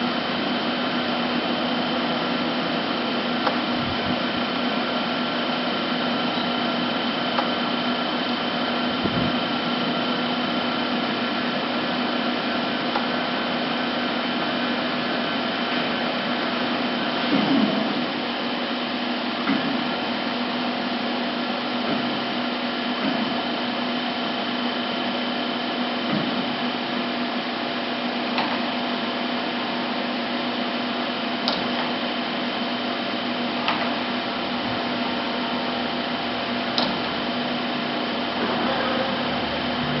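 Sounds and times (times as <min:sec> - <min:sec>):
lathe machine hum: 0:00.0 - 0:40.0.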